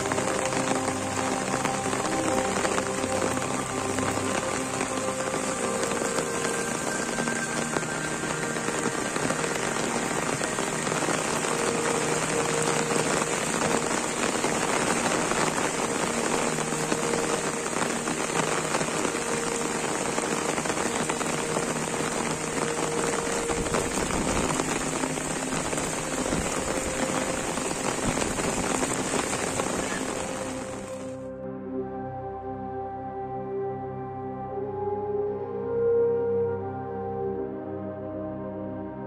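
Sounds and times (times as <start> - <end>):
heavy rain falling on water: 0.0 - 31.3.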